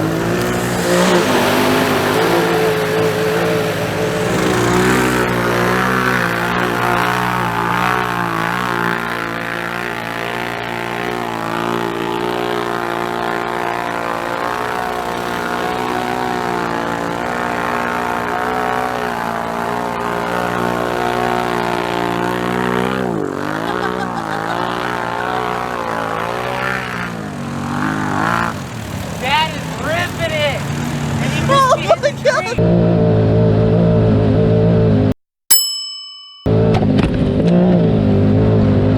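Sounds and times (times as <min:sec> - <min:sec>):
engine running at high revs: 0:00.0 - 0:35.1, 0:36.5 - 0:38.9.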